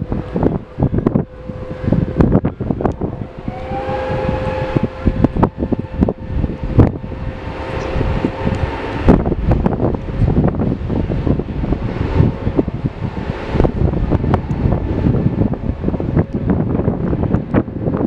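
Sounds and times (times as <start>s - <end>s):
higher whine: 0.0s - 18.0s
jet airliner engine whine: 0.0s - 18.0s
wind buffeting microphone: 0.0s - 18.0s.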